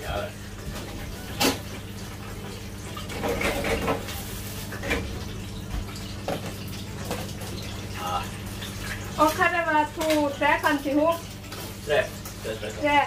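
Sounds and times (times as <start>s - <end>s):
fryer and extractor hum: 0.0s - 13.0s.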